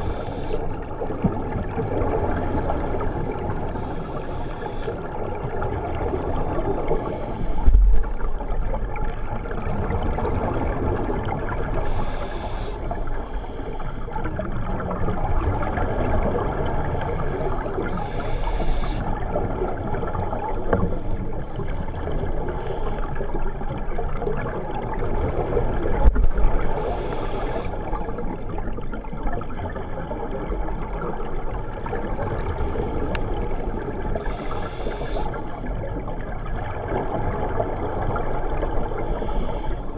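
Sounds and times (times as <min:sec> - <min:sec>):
underwater rumbling hiss: 0:00.0 - 0:24.5, 0:25.1 - 0:28.9, 0:31.8 - 0:39.9.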